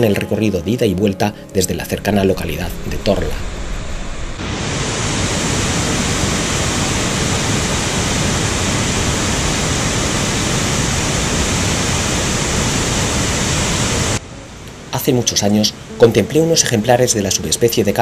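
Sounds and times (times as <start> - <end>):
waterfall rushing: 1.4 - 18.0.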